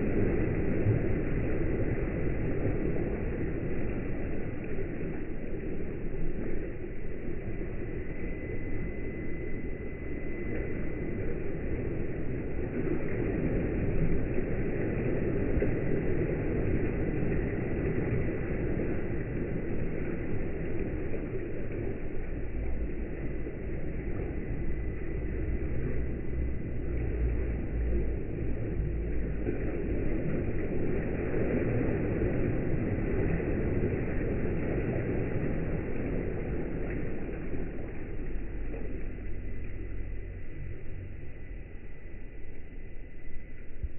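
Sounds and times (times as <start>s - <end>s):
water waves surging and breaking: 0.0s - 42.7s
faint high whine: 0.0s - 43.9s
steady low rumble: 0.0s - 43.9s.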